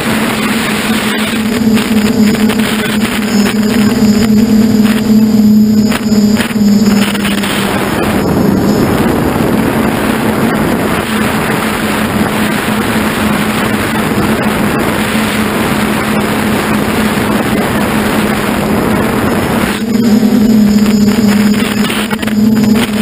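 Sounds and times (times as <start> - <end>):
model aircraft motor drone: 0.0 - 23.0
wind rushing over microphone: 0.0 - 23.0.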